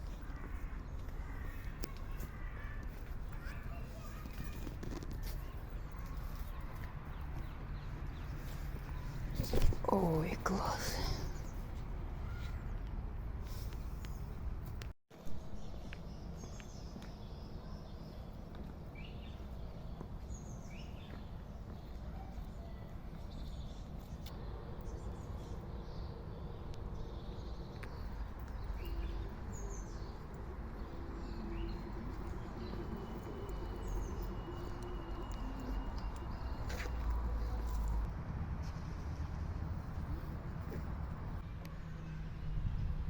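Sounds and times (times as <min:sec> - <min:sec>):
small birds chirping: 0:00.0 - 0:14.5, 0:15.4 - 0:38.1.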